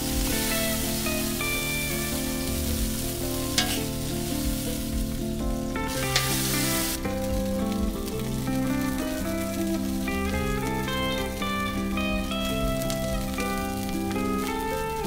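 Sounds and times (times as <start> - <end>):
background music: 0.0 - 15.0
burger patties sizzling on a griddle: 0.0 - 15.0.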